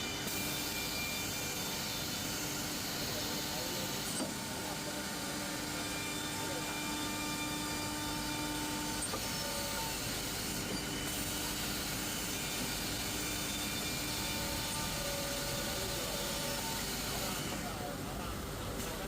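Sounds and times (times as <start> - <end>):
drilling machine hum: 0.0 - 18.7.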